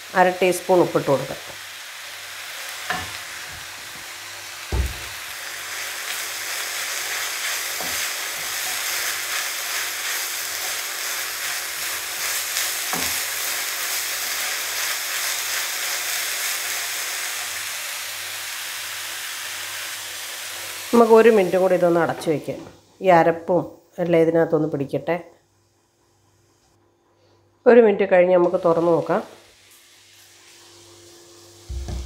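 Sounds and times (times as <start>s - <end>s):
food sizzling in a pan: 0.0s - 23.3s, 28.4s - 32.0s.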